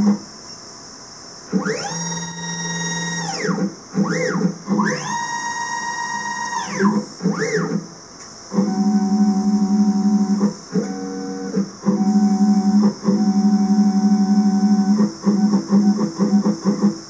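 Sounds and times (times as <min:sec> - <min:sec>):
stepper motor whine: 0:01.5 - 0:17.0.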